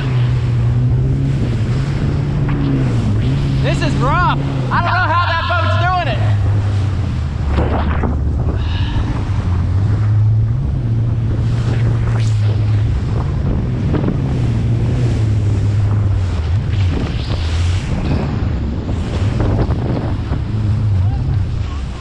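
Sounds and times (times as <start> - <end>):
wind buffeting microphone: 0.0 - 4.7, 6.2 - 22.0
jet ski engine droning: 0.0 - 22.0.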